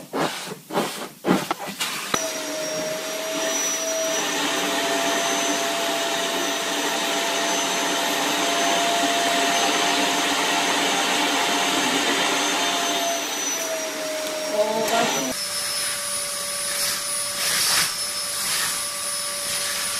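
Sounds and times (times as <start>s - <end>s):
vacuum cleaner running: 1.8s - 19.9s.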